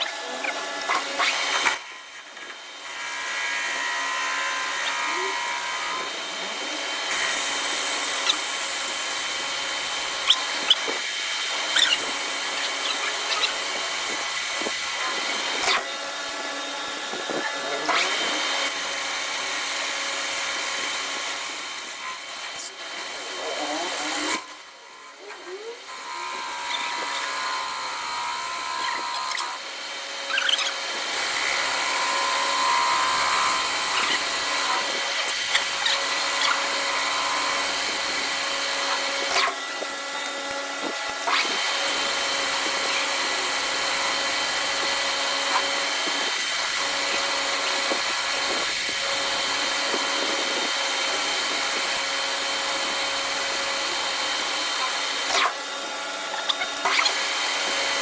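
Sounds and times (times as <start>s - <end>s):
high machine whine: 0.0s - 55.6s
machine tool cutting steel: 0.0s - 58.0s.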